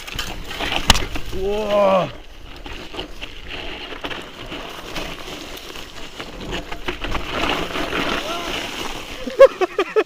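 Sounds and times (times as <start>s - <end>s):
bike clicks and rattles: 0.0s - 10.0s
bike tyres crunching on gravel: 0.0s - 10.0s.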